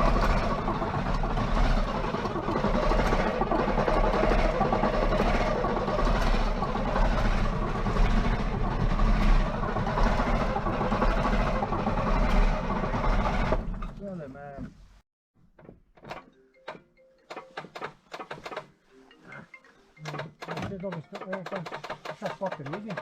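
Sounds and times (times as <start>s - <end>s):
starter motor cranking engine: 0.0s - 14.1s, 17.3s - 18.7s, 20.0s - 23.0s.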